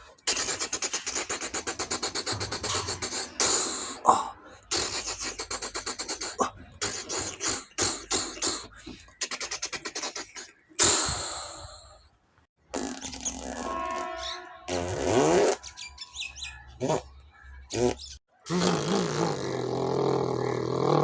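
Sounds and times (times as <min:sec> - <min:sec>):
person making mouth sound effects: 0:00.2 - 0:11.9, 0:12.7 - 0:14.1, 0:14.7 - 0:15.6, 0:16.8 - 0:17.1, 0:17.7 - 0:21.0.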